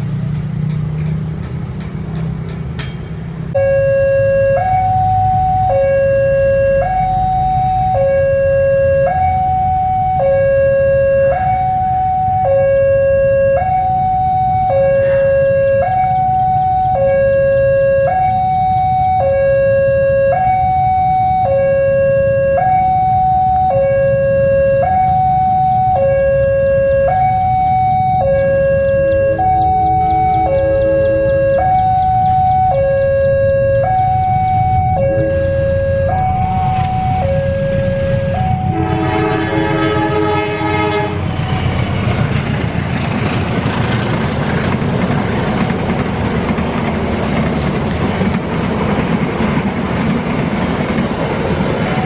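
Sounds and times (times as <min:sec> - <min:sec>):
two-tone railway warning alarm: 0:03.5 - 0:52.0.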